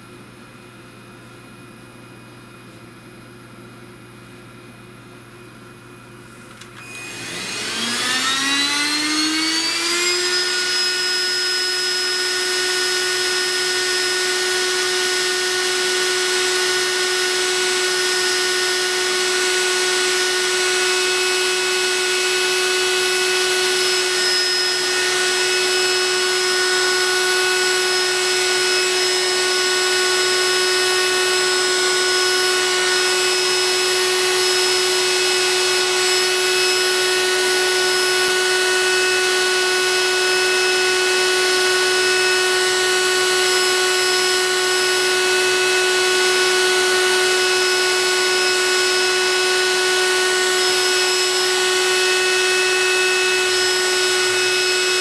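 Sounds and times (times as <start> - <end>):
vacuum motor whining: 6.3 - 55.0.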